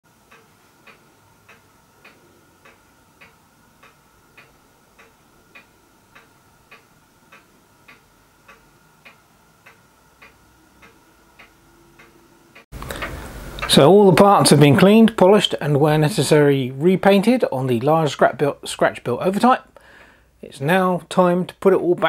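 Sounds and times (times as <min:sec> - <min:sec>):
clock ticking: 0:00.1 - 0:19.8
faint steady hum: 0:00.1 - 0:22.0.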